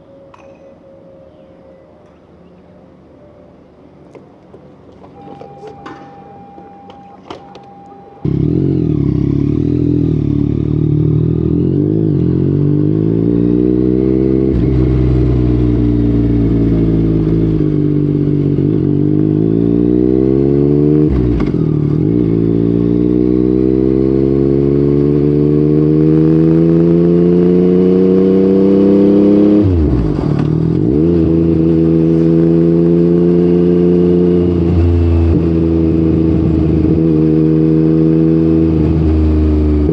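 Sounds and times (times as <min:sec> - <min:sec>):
motorcycle engine accelerating: 0:05.5 - 0:39.9.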